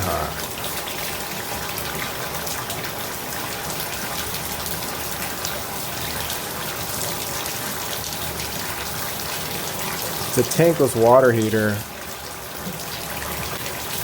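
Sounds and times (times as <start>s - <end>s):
shower water running: 0.0s - 14.0s.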